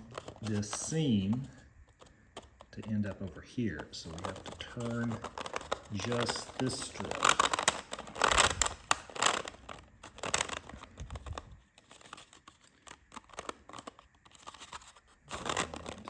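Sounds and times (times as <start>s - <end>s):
plastic strips rustling and clicking: 0.0s - 16.0s.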